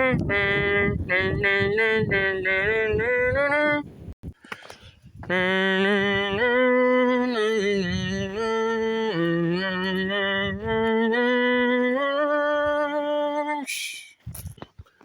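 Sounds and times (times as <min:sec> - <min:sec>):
person humming: 0:00.0 - 0:03.9, 0:05.2 - 0:14.2.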